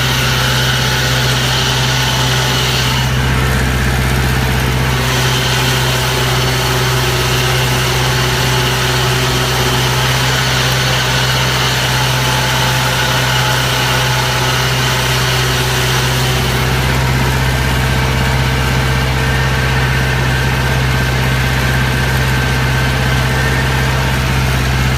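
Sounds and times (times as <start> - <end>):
engine idling: 0.0 - 24.9.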